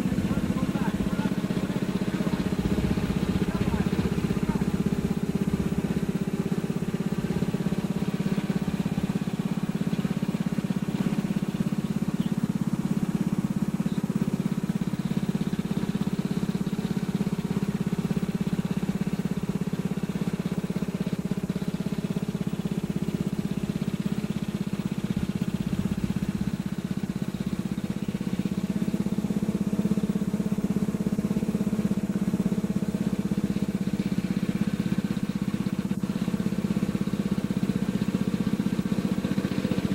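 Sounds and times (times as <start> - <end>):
riding lawnmower engine running: 0.0 - 39.9.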